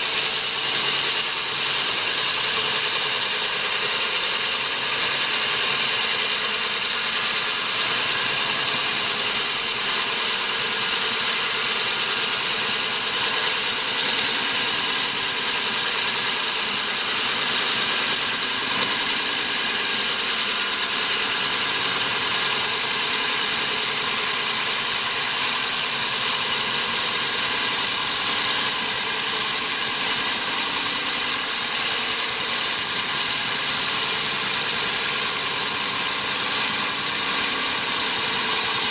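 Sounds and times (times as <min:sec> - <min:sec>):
core drill grinding concrete: 0:00.0 - 0:38.9.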